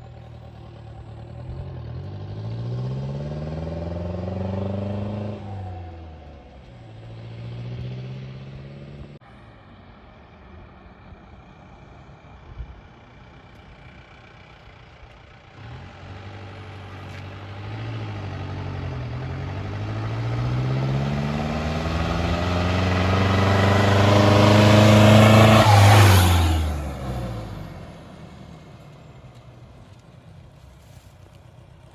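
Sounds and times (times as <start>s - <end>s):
diesel engine revving: 0.0s - 9.2s, 11.2s - 31.9s.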